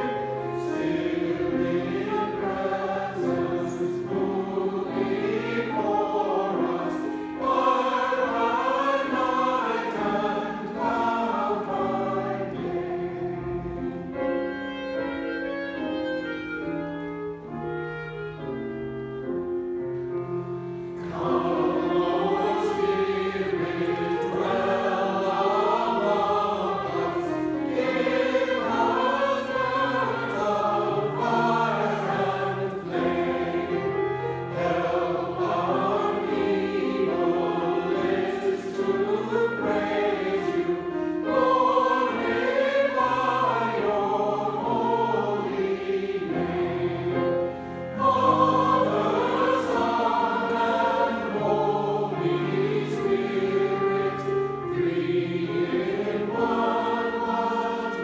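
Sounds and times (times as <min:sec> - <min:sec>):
choir singing a hymn: 0:00.0 - 0:58.0
clarinet: 0:00.0 - 0:58.0
piano: 0:00.0 - 0:58.0.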